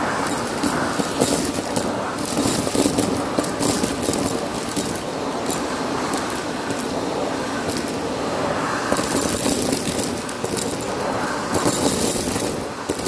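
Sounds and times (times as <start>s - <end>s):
crackling rattling clicks: 0.2s - 7.0s, 7.6s - 8.0s, 8.9s - 13.0s.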